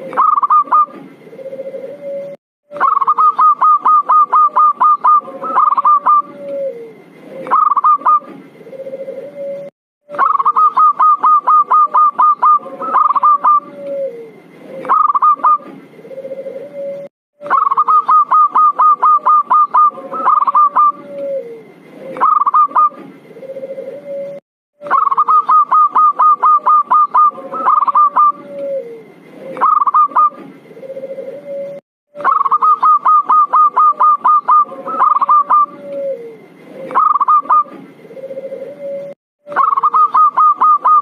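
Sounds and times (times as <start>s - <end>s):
dove call recording: 0.0s - 41.0s.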